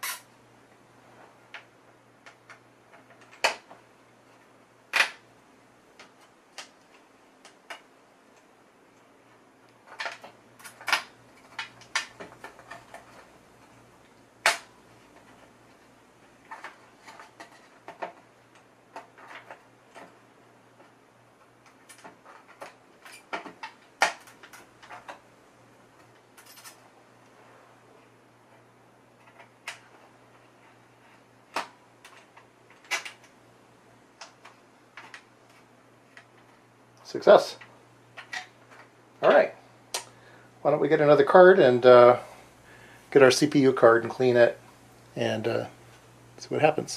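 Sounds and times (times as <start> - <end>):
faint steady hum: 0.0 - 46.9.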